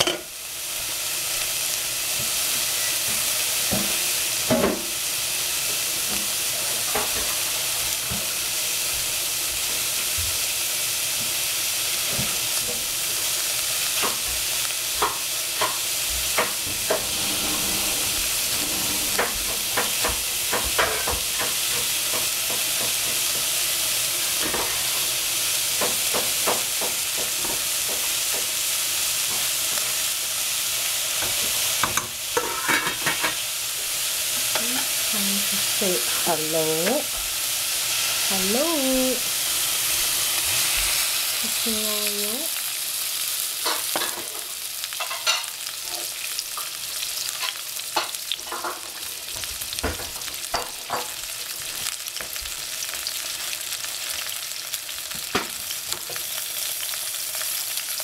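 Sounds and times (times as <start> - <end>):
onions sizzling in a pan: 0.0 - 58.0.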